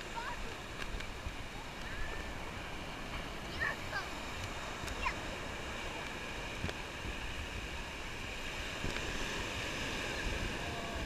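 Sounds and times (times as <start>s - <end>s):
small waves breaking on sand: 0.0s - 11.0s
wind on microphone: 0.0s - 11.0s.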